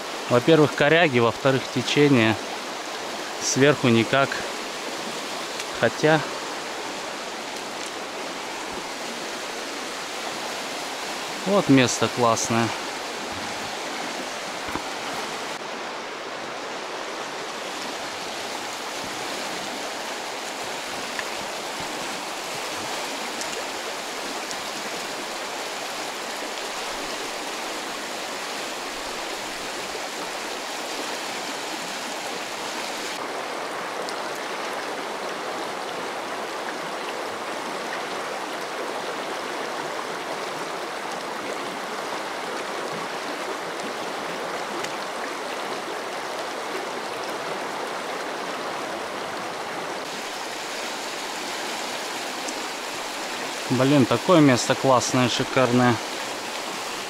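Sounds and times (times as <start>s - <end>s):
fast river running: 0.0s - 57.0s.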